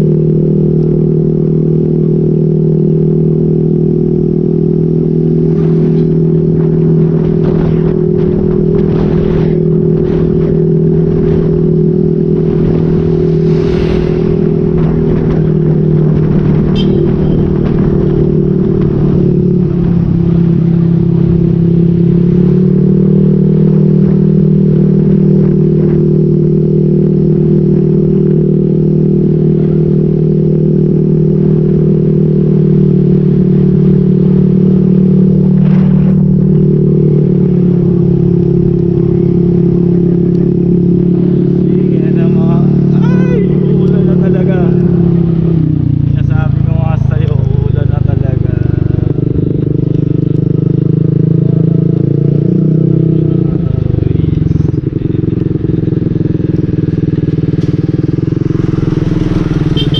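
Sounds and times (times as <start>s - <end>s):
motorcycle cruising: 0.0s - 59.9s.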